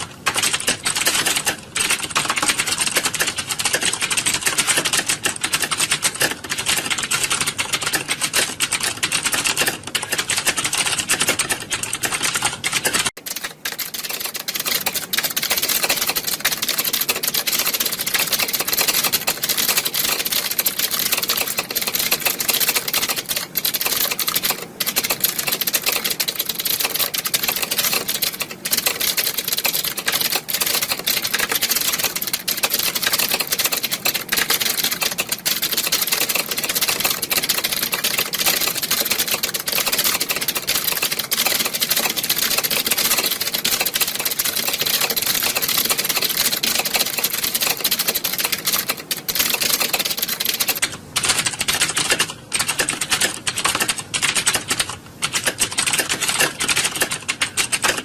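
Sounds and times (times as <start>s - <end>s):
many keyboards typing: 0.0s - 58.0s.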